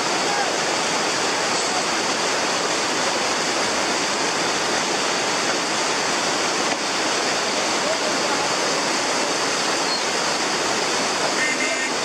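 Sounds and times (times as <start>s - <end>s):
fast-flowing river rushing: 0.0s - 12.0s.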